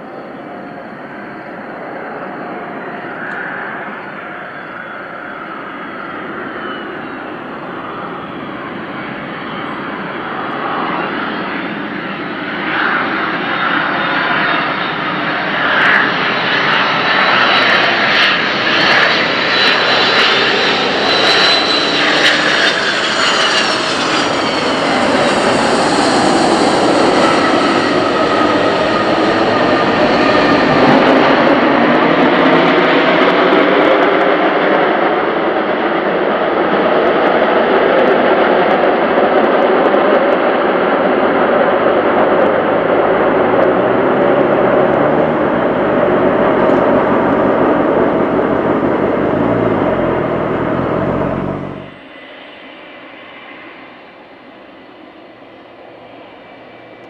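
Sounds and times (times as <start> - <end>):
jet engines whining on approach: 0.0 - 57.0
jet reverse thrust roar: 1.2 - 34.6, 40.1 - 57.0.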